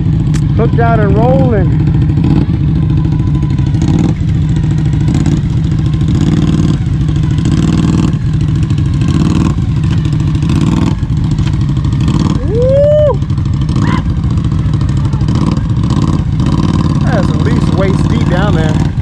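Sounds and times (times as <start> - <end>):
vehicle engine driving through mud: 0.0 - 19.0.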